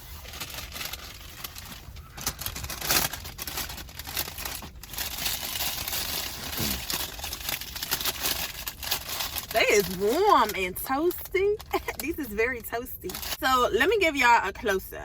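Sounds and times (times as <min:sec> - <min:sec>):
paper bag crinkling: 0:00.0 - 0:12.3.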